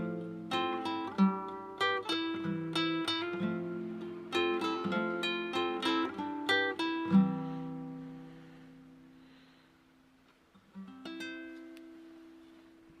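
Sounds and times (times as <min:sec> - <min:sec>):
acoustic guitar plucking and chords: 0:00.0 - 0:13.0.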